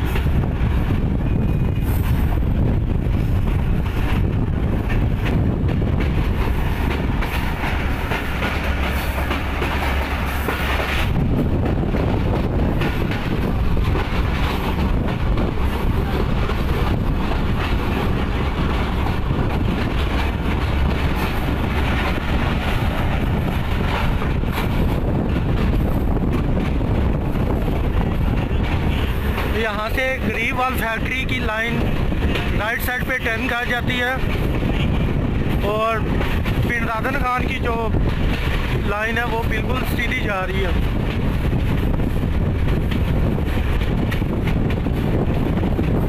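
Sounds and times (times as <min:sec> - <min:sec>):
train wheels clattering over rails: 0:00.0 - 0:46.0.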